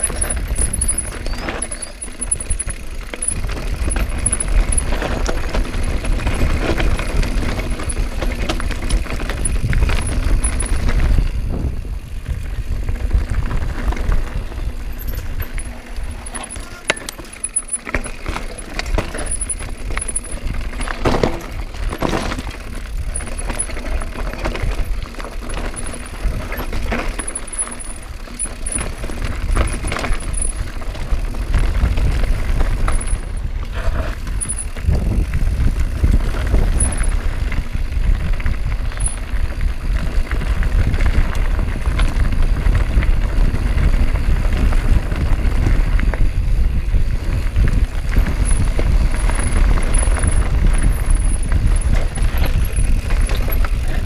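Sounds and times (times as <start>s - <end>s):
mountain bike rattling on dirt: 0.0s - 54.0s.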